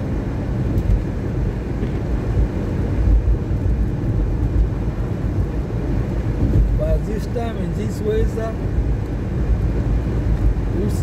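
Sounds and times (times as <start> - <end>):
car road noise on wet road: 0.0 - 11.0.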